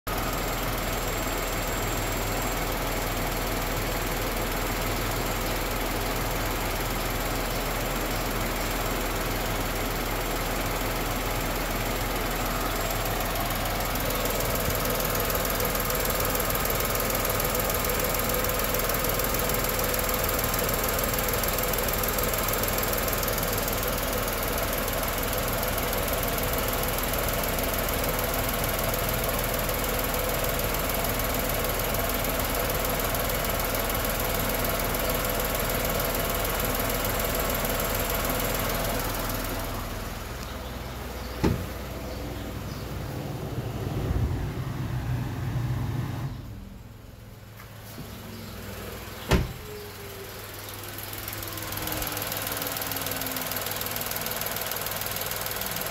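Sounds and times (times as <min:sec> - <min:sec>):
car engine idling: 0:00.1 - 0:55.9.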